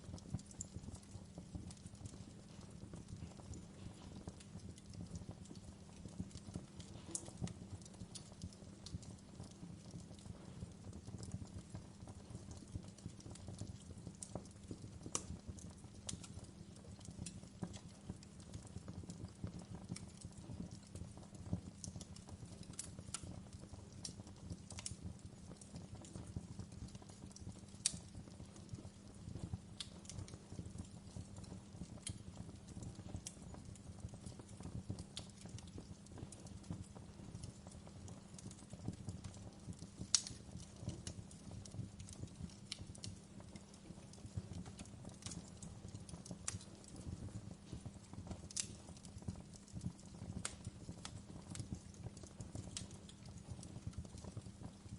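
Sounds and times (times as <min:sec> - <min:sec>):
fire popping: 0:00.0 - 0:54.9
wood fire crackling: 0:00.0 - 0:54.9.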